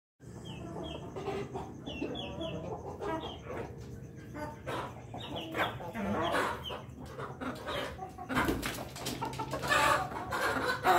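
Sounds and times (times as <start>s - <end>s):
chickens clucking: 0.2s - 10.9s.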